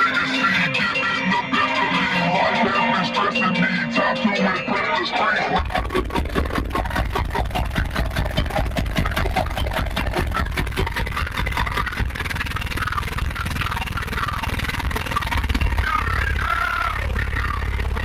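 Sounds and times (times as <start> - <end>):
heavy bass music from subwoofers: 0.0 - 18.0.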